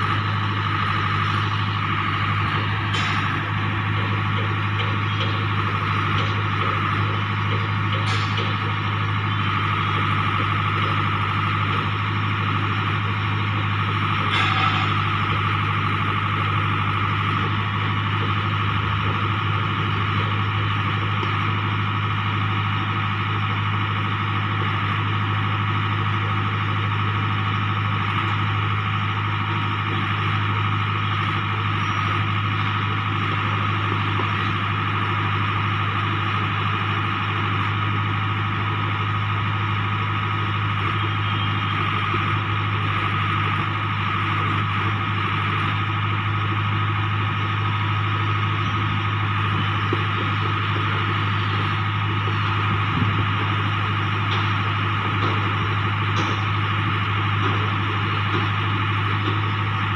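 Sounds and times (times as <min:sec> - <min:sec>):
engine humming and whining: 0:00.0 - 0:59.9.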